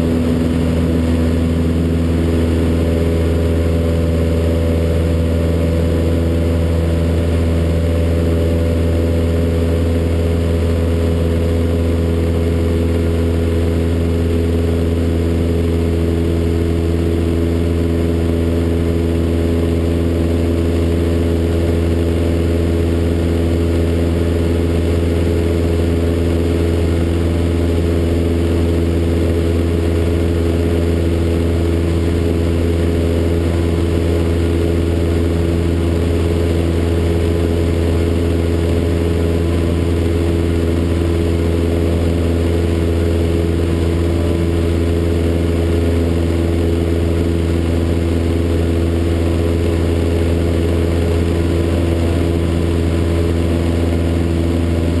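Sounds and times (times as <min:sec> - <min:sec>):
propeller aircraft engine droning: 0:00.0 - 0:55.0.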